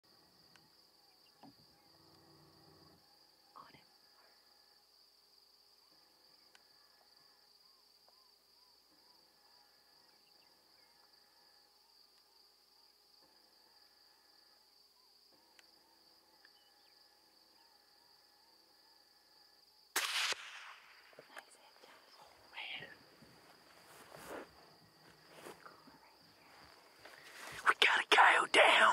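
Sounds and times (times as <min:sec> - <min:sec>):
insects trilling: 0:00.1 - 0:19.9, 0:20.7 - 0:28.9.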